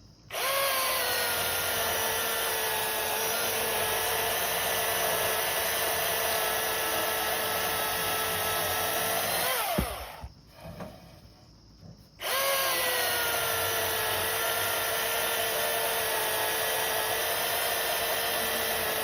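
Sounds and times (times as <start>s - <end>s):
battery chainsaw motor whine: 0.3s - 11.2s, 12.1s - 19.0s.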